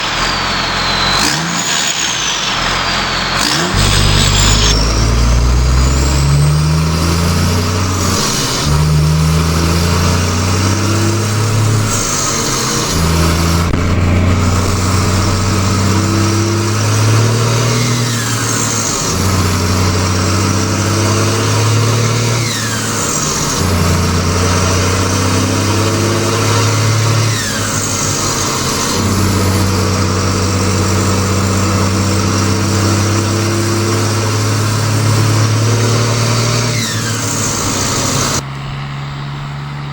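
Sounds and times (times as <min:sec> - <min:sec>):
turbo whistle: 0:00.0 - 0:38.5
tractor diesel engine revving: 0:00.0 - 0:39.9.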